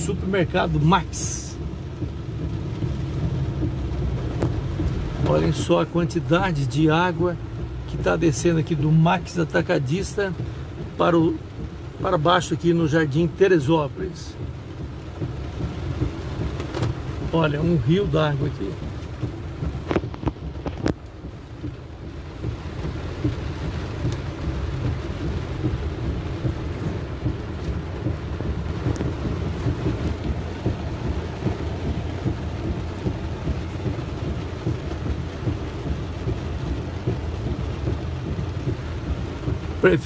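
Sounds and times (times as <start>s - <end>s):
car cabin low rumble: 0.0s - 40.0s
hiss of rain and water: 0.0s - 40.0s.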